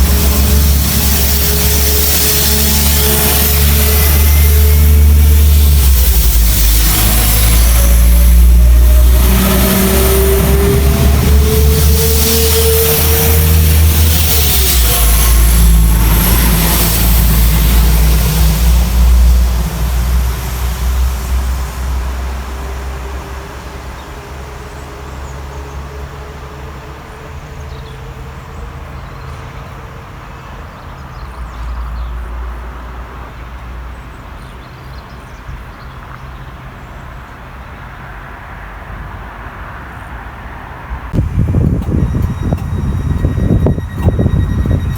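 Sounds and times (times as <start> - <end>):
train passing with deep rumble: 0.0 - 44.9.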